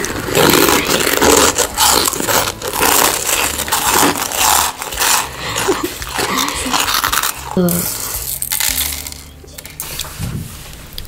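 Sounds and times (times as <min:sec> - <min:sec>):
chewing and crunching food: 0:00.0 - 0:09.3.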